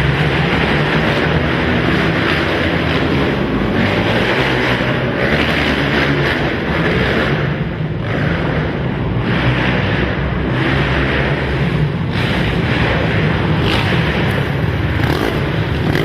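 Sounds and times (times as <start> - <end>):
quad engines revving: 0.0 - 16.0.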